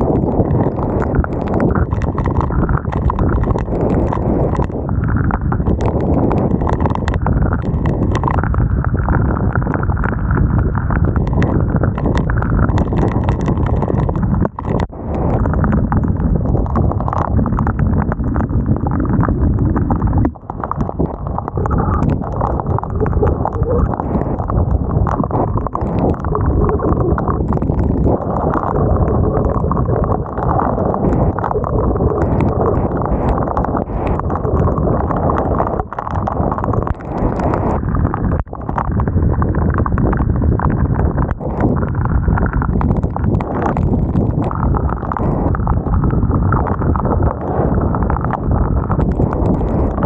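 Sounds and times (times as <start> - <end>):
raindrops tapping on camera: 0.0 - 50.0
wind rumbling on microphone: 0.0 - 50.0.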